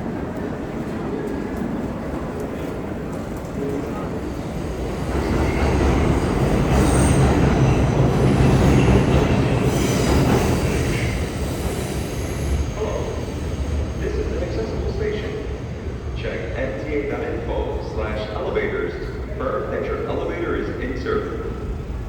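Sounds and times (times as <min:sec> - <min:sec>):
subway train rumbling on rails: 0:00.0 - 0:22.0.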